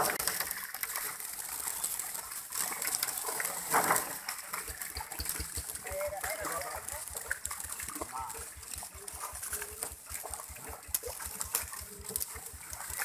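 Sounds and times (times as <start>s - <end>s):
water gushing and splashing: 0.0s - 13.0s.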